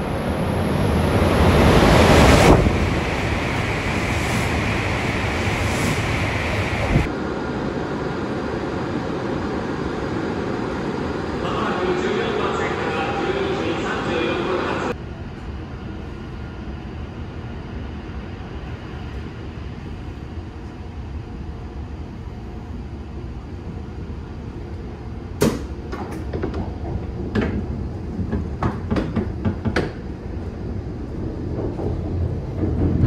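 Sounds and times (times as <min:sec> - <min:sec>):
train running rumble: 0:00.0 - 0:07.2, 0:10.1 - 0:33.0.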